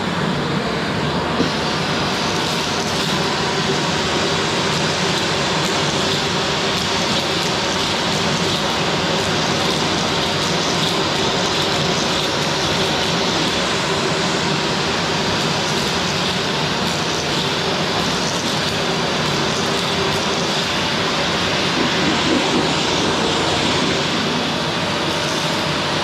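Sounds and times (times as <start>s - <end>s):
vacuum cleaner suction rush: 0.0s - 26.0s.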